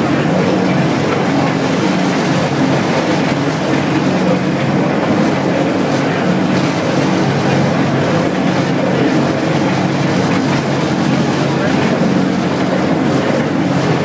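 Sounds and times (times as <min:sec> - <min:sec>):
lift mechanical drone: 0:00.0 - 0:14.0.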